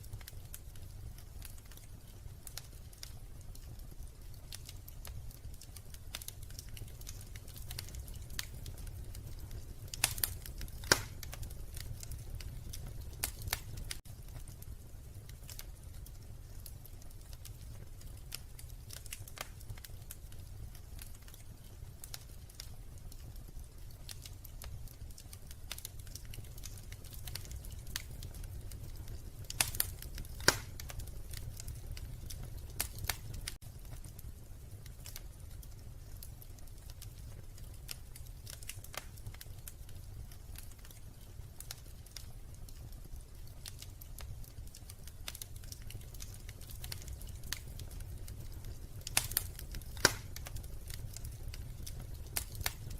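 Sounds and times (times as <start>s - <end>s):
low steady fire rumble: 0.0s - 52.9s
wood fire crackling: 0.0s - 52.9s.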